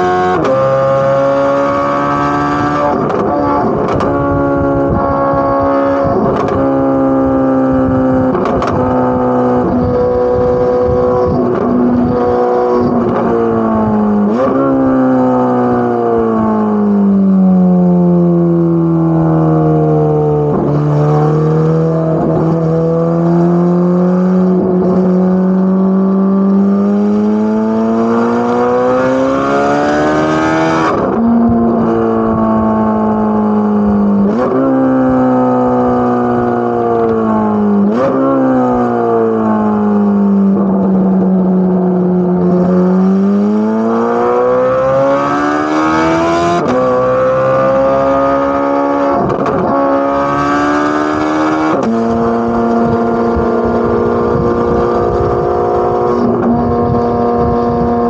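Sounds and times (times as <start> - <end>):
sports car accelerating hard: 0.0 - 58.0.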